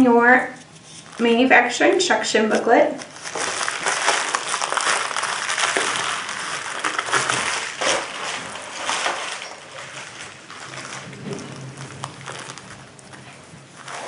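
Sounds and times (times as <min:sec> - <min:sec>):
packaging crinkling and rustling: 0:00.6 - 0:14.0.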